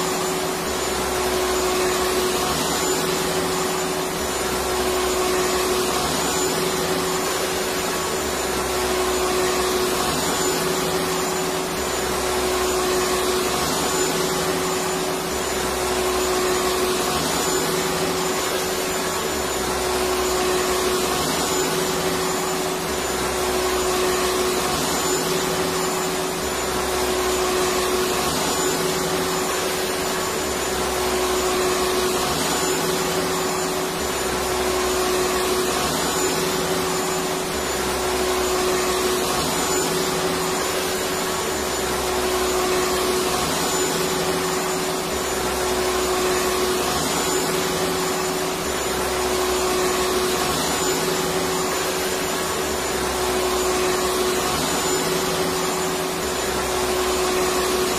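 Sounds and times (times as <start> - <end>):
vacuum cleaner motor running: 0.0 - 57.9.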